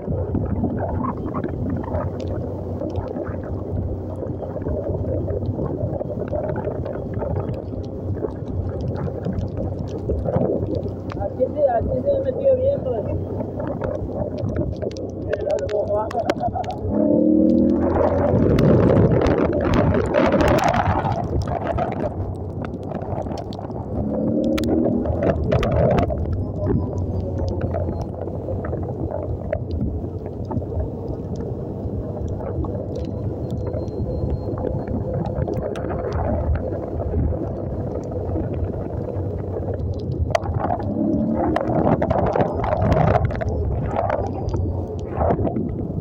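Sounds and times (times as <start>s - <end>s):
wind on microphone: 0.0s - 46.0s.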